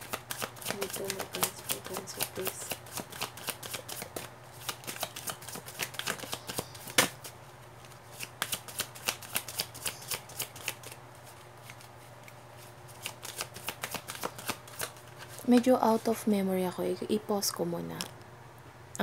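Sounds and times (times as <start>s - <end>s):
cards being shuffled: 0.0s - 16.2s.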